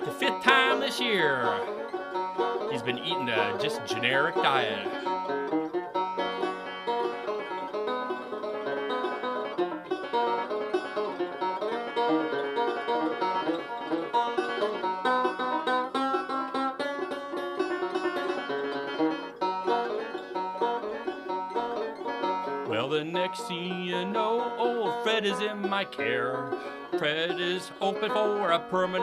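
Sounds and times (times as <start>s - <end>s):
banjo picking: 0.0s - 29.0s.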